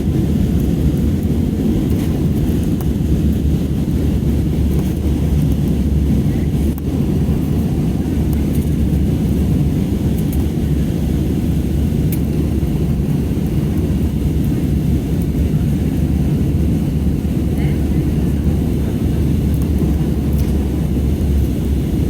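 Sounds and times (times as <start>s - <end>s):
jet cabin rumble: 0.0s - 22.0s.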